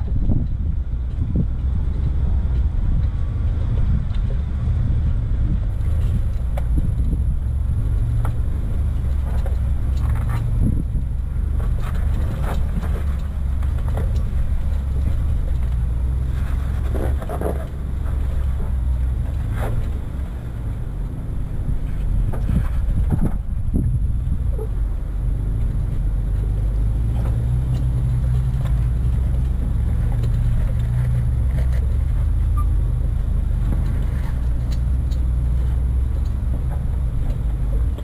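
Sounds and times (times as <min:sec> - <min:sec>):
low engine rumble: 0:00.0 - 0:38.0.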